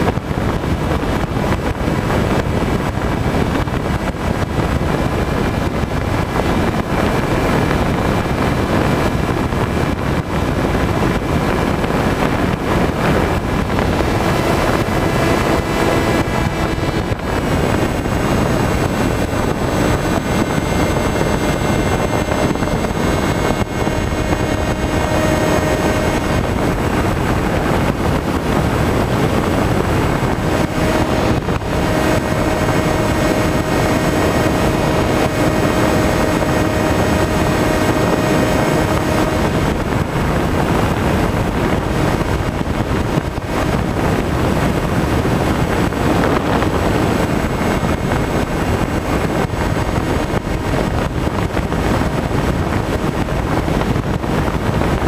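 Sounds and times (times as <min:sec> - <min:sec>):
electric motor and propeller whine: 0:00.0 - 0:55.0
wind noise on microphone: 0:00.0 - 0:55.0.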